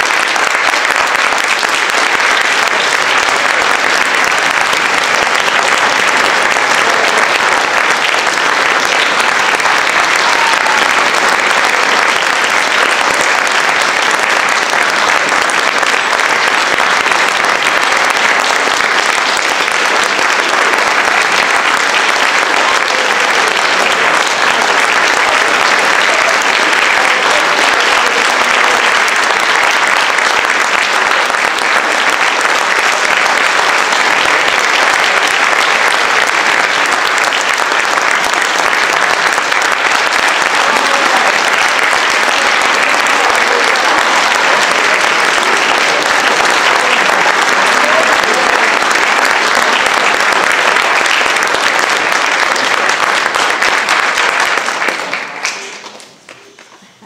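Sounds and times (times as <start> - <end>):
audience applauding: 0.0 - 57.0.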